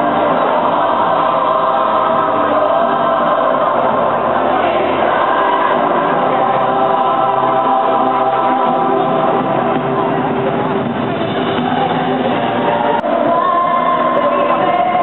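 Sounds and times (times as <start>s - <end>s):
choir singing long held notes: 0.0s - 15.0s.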